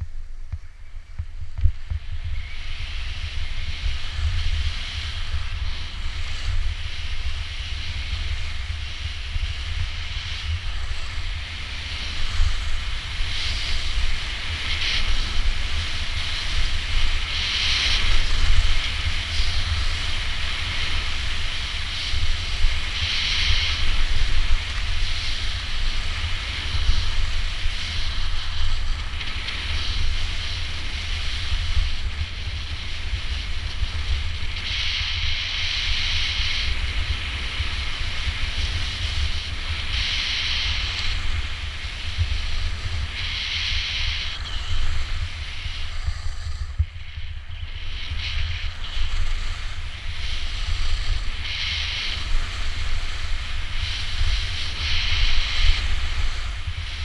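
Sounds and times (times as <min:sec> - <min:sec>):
skis scraping across snow: 0:00.0 - 0:57.0
wind buffeting microphone: 0:00.0 - 0:57.0.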